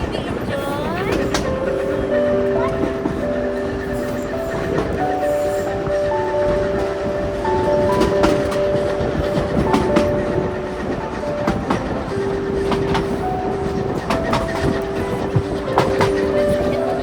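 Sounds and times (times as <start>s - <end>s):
railway carriage rumbling: 0.0s - 17.0s.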